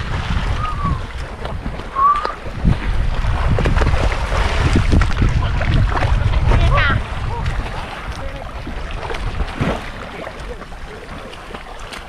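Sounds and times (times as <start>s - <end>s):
water splashing from swimmers: 0.0s - 12.0s
wind on microphone: 0.0s - 12.0s.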